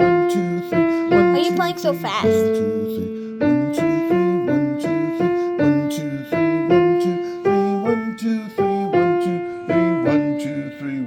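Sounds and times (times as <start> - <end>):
piano in three-beat rhythm: 0.0 - 11.0.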